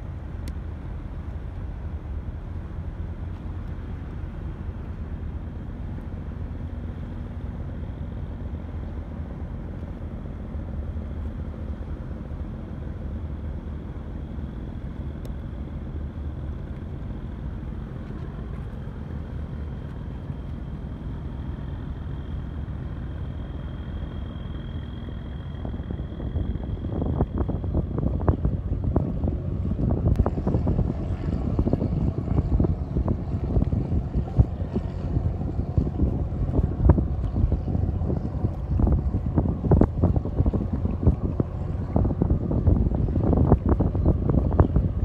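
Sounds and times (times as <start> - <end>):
ship engine rumble: 0.0 - 45.0.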